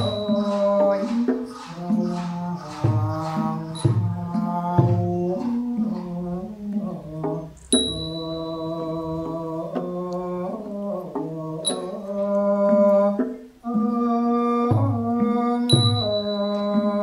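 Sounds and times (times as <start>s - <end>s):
small cymbal strokes: 0.0s - 13.7s, 15.7s - 17.0s
man singing long held notes: 0.0s - 17.0s.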